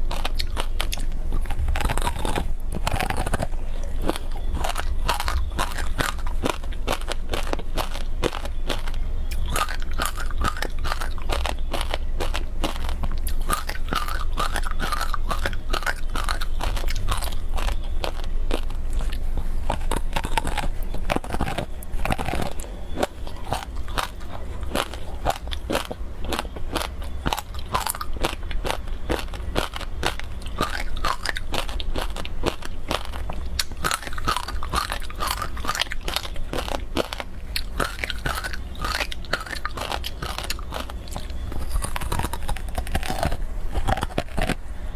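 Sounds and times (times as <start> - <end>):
ice being bitten and chewed: 0.0 - 44.6.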